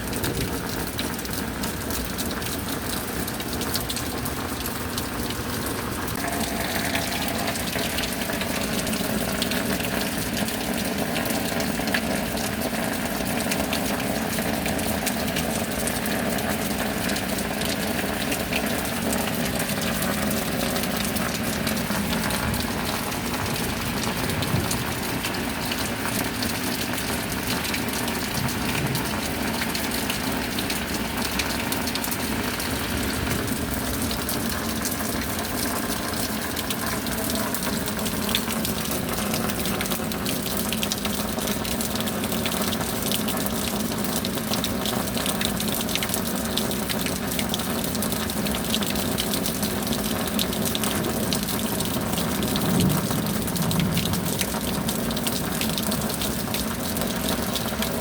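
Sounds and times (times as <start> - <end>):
steady rain: 0.0 - 58.0
water running and gushing: 0.0 - 58.0.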